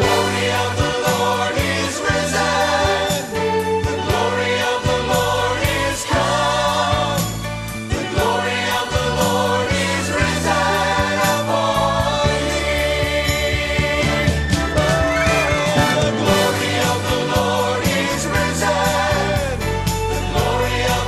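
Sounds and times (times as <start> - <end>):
band with bass and drums: 0.0 - 21.0
choir singing: 0.0 - 21.0.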